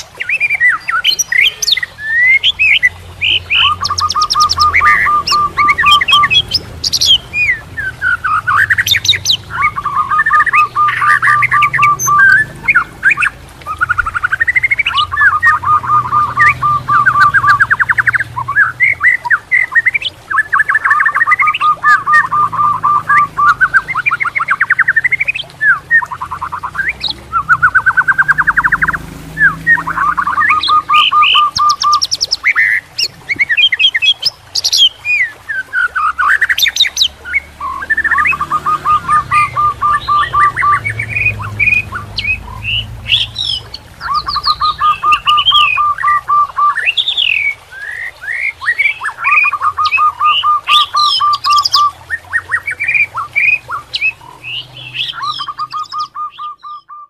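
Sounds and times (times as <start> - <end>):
songbird singing trills and chirps: 0.0 - 57.0.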